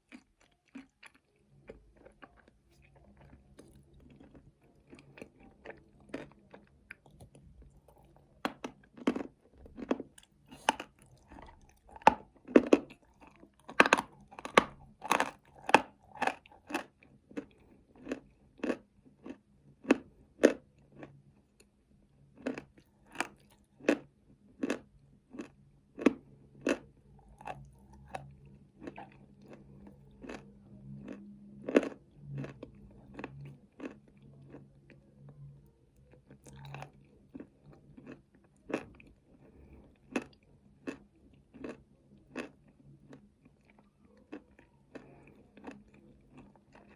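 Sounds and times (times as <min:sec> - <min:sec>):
chewing crunchy nuts: 0:00.0 - 0:46.9.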